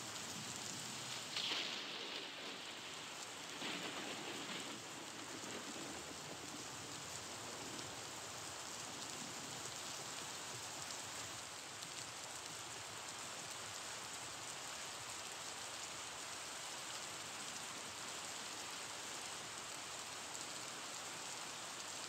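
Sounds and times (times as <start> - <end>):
steady rain-like hiss: 0.0 - 22.0.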